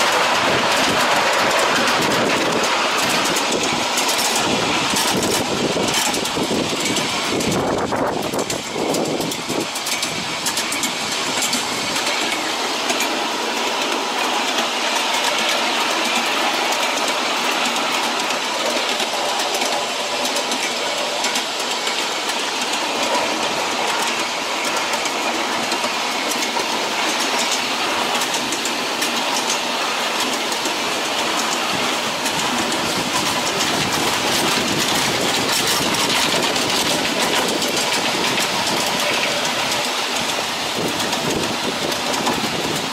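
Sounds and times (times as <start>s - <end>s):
small train wheels clattering on rails: 0.0s - 42.9s.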